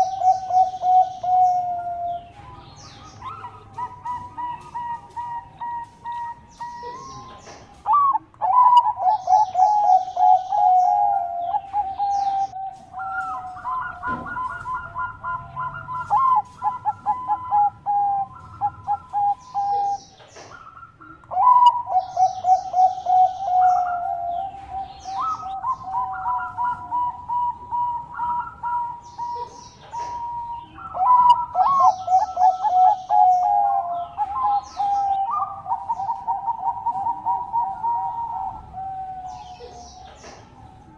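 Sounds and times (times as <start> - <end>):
dove cooing: 0.0 - 40.9
small birds chirping: 0.0 - 40.9.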